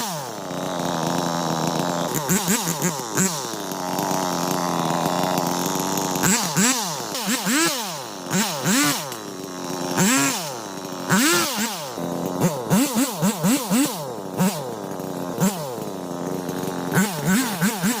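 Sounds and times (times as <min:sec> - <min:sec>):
chainsaw idling and revving: 0:00.0 - 0:18.0.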